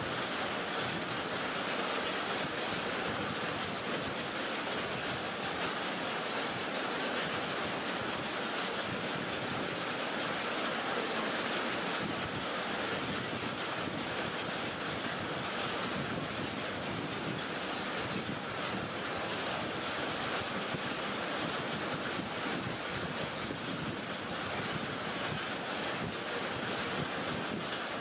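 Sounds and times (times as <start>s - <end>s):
heavy rain on lake and leaves: 0.0s - 28.0s.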